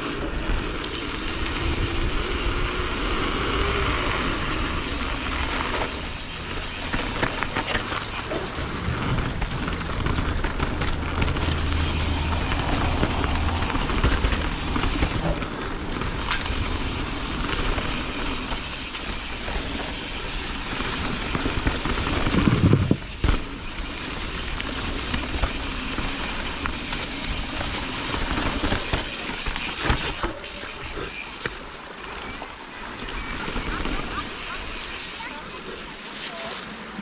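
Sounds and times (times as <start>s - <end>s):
bike tyres rolling on dirt: 0.0s - 37.0s
wheels rumbling over wooden bridge: 0.0s - 37.0s.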